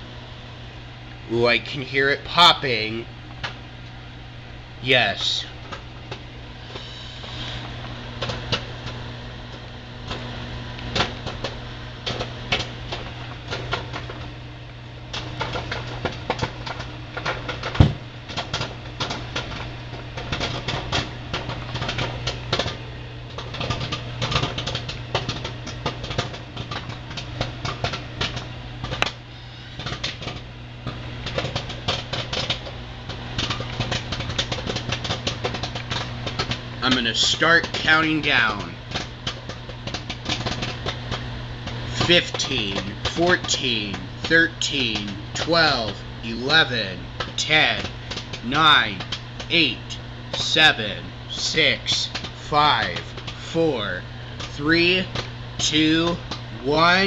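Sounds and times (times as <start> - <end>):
microwave oven humming: 0.0 - 57.0
popcorn popping: 1.5 - 4.3, 4.9 - 57.0.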